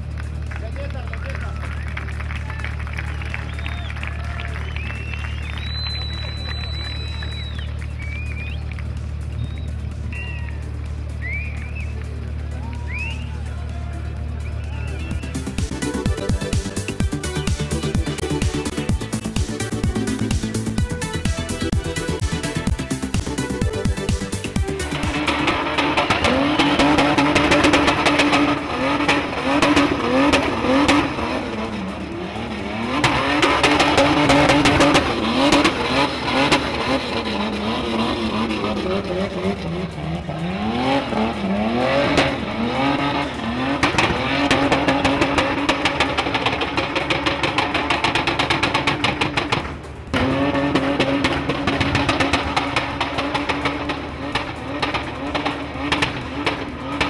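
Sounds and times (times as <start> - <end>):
engine revving high: 0.7 - 57.0.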